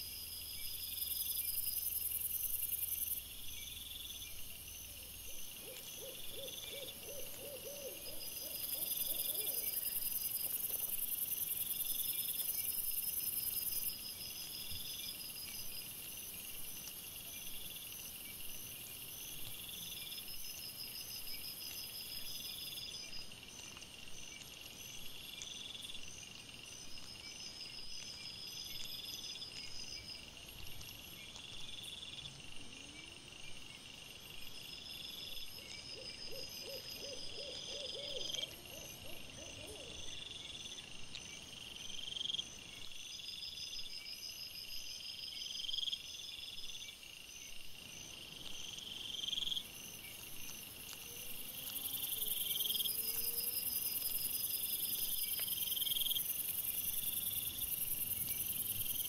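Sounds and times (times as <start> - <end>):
insect chirps: 0.0 - 59.0
insect pulsed trills: 0.0 - 59.0
rapid low insect pulses: 0.0 - 59.0.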